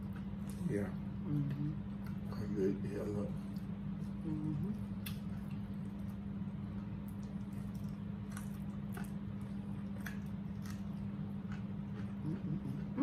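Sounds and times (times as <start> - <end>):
people chewing fried chicken: 0.0 - 13.0
steady low hum: 0.0 - 13.0.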